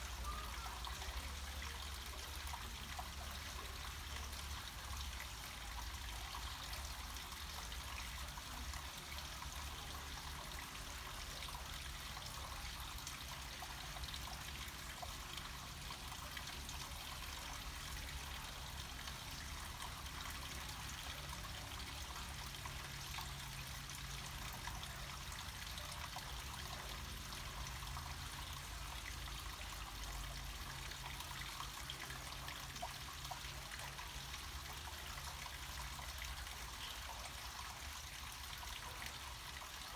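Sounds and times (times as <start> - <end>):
stream water trickling and splashing: 0.0 - 39.9.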